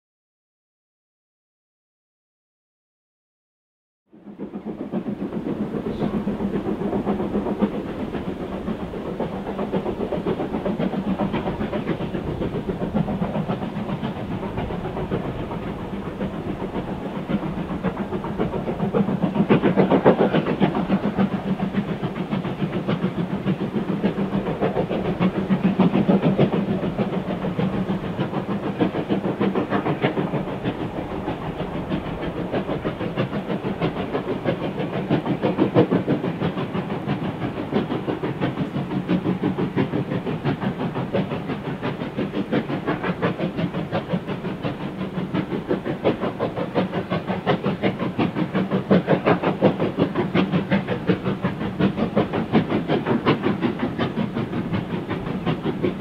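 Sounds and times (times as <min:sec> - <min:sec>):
steam locomotive chuffing: 0:04.1 - 0:56.0.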